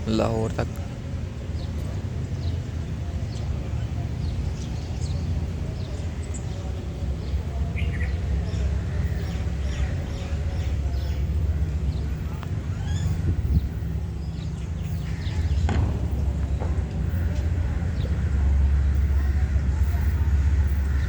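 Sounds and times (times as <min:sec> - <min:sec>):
birds chirping: 0:00.0 - 0:21.0
faint voices: 0:00.0 - 0:21.0
train rumbling at platform: 0:00.0 - 0:21.0.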